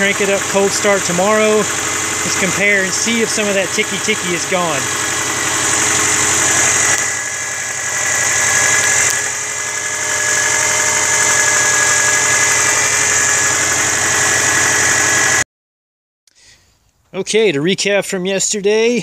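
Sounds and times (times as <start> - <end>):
car engine idling: 0.0 - 15.4
rapid engine ticking: 0.0 - 15.4.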